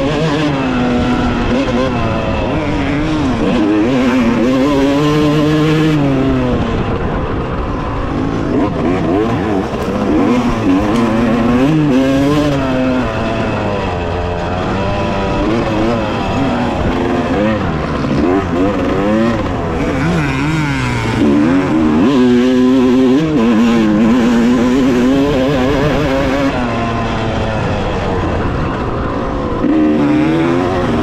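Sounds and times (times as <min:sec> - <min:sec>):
two-stroke dirt bike revving: 0:00.0 - 0:31.0.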